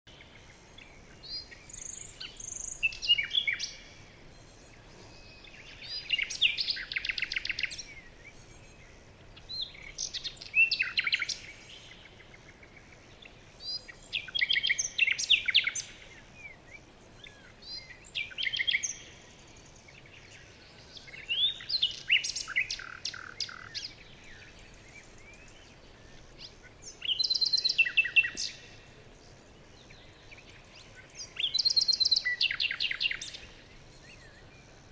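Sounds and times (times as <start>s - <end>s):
faint outdoor hiss: 0.1s - 34.9s
songbird singing with trill: 0.1s - 34.9s.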